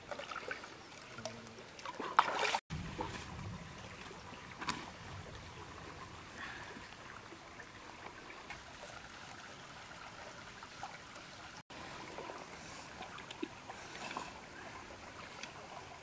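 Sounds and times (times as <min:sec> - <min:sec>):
stream trickling: 0:00.0 - 0:16.0.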